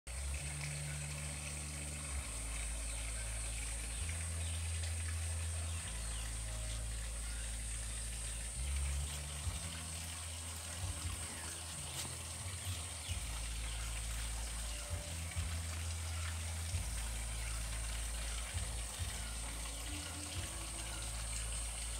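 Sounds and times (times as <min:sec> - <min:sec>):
high-pitched insect drone: 0:00.2 - 0:21.9.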